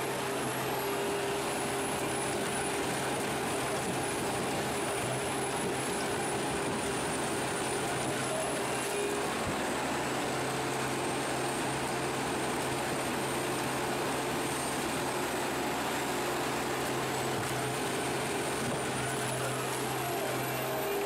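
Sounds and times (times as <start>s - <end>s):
wood shredder droning: 0.0s - 21.0s.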